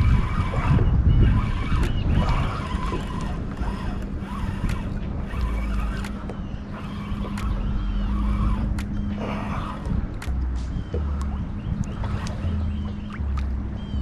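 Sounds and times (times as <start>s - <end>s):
small clicks: 0.0s - 13.6s
steady low hum: 0.0s - 14.0s
wind buffeting microphone: 0.0s - 14.0s.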